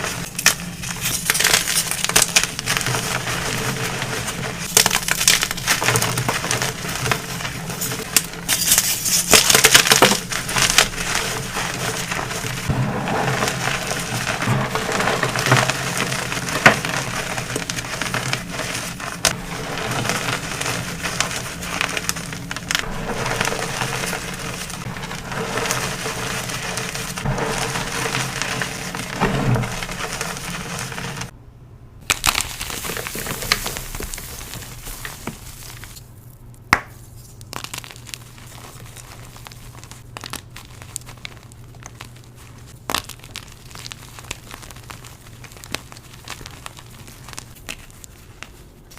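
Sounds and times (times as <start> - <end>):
chalk being crushed: 0.0 - 31.3, 32.1 - 48.9.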